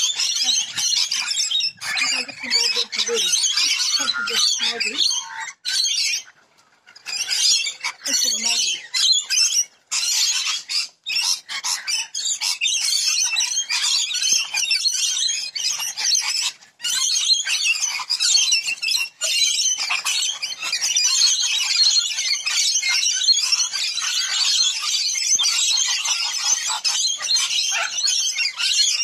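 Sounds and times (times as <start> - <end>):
flock of parrots screeching: 0.0 - 29.0.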